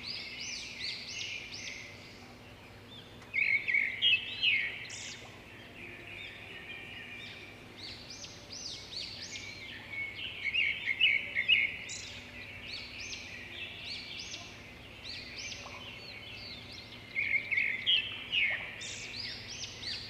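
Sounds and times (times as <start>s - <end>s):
birds chirping and singing: 0.0s - 20.0s
faint background noise: 0.0s - 20.0s.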